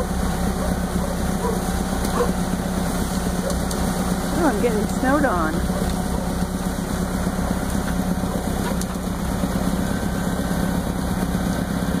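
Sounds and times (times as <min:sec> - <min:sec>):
snowblower throwing snow: 0:00.0 - 0:12.0
tractor engine running: 0:00.0 - 0:12.0.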